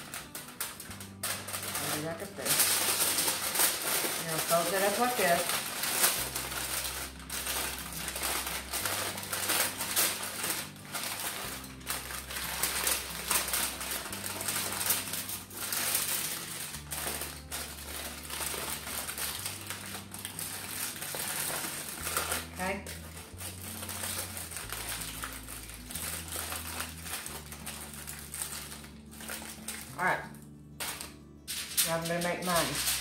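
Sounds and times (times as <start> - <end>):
aluminium foil crinkling: 0.0 - 33.0.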